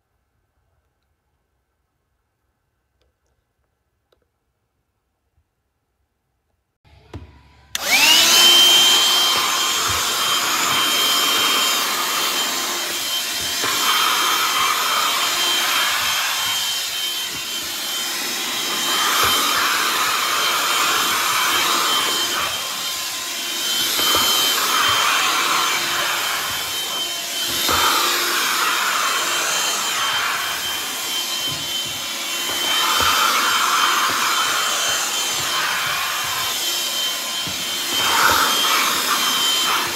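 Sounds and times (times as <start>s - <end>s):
handheld vacuum motor whine: 6.9s - 39.9s.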